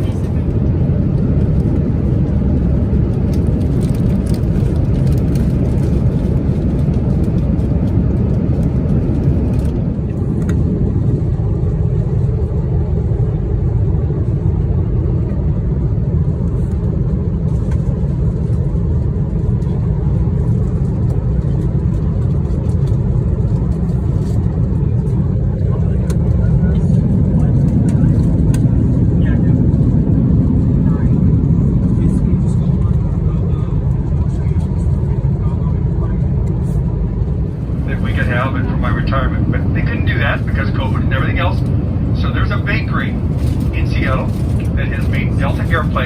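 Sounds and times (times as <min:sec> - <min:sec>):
airplane cabin roar: 0:00.0 - 0:46.0.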